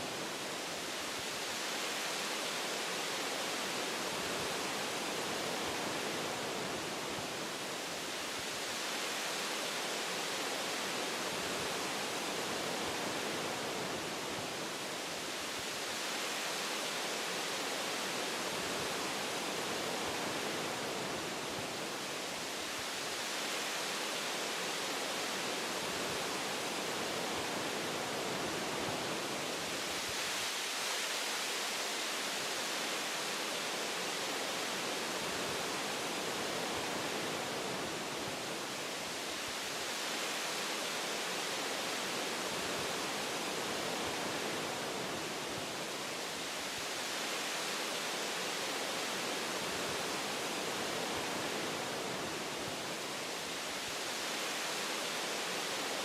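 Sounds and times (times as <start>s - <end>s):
wind through tree branches: 0.0s - 56.0s.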